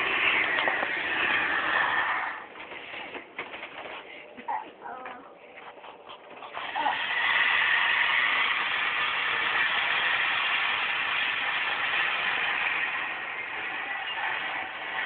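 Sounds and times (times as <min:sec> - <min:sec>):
monster truck engine: 0:00.0 - 0:04.0, 0:06.4 - 0:15.0.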